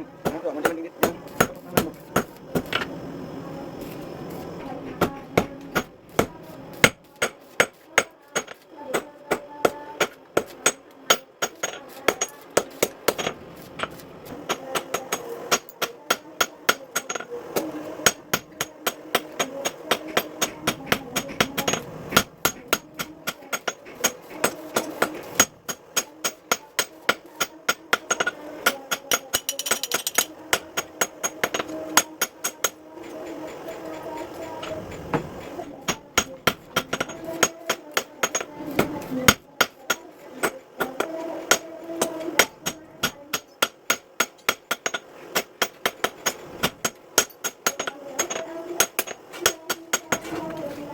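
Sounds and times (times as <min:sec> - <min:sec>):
hammer striking steel on anvil: 0:00.2 - 0:03.0, 0:03.8 - 0:50.6.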